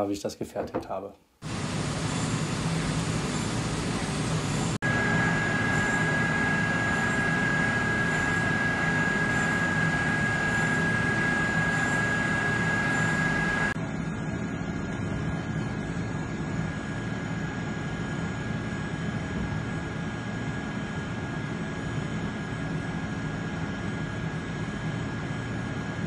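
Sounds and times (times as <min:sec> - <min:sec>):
milling machine high whine: 0:01.4 - 0:22.5.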